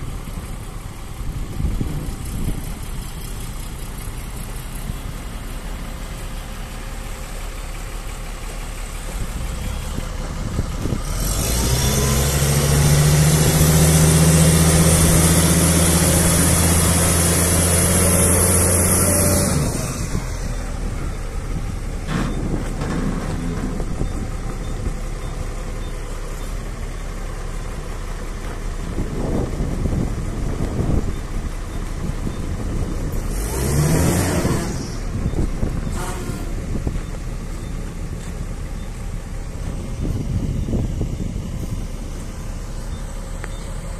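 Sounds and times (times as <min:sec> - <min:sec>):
crane diesel engine running: 0:00.0 - 0:43.9.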